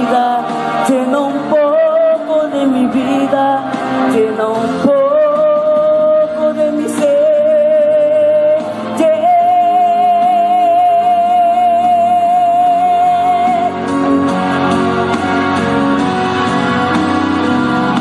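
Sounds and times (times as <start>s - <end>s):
backing track music: 0.0s - 18.0s
person singing with vibrato: 0.0s - 18.0s.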